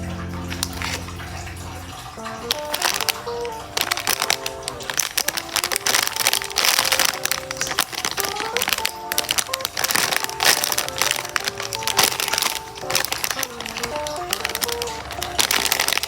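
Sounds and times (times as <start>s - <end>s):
background music with simple melody: 0.0s - 16.0s
plastic packaging crinkling: 0.0s - 16.0s.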